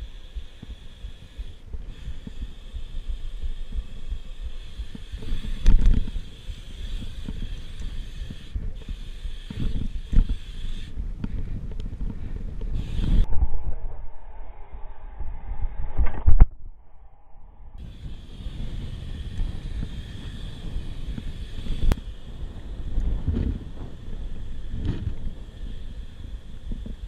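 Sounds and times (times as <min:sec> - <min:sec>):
bike jolts: 0:00.0 - 0:13.3, 0:17.8 - 0:27.0
bike tyres rumbling on pavement: 0:00.0 - 0:13.3, 0:17.8 - 0:27.0
wind buffeting microphone: 0:00.0 - 0:27.0.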